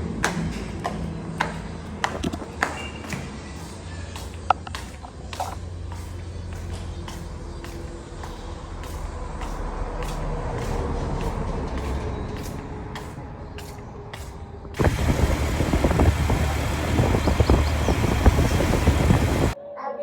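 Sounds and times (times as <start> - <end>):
rough rumbling vehicle noise: 0.0 - 19.6
vehicle engine hum: 0.0 - 19.6.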